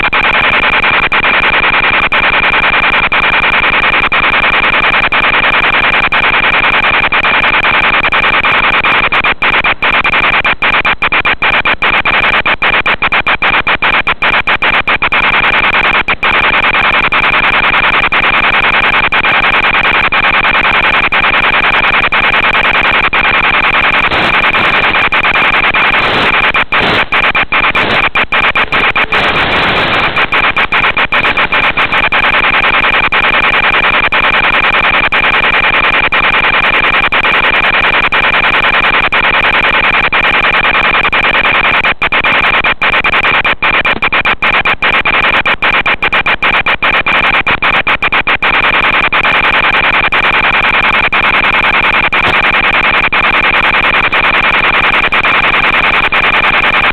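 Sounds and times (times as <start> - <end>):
constant high tone: 0.0 - 56.9
radio static hiss: 0.0 - 56.9.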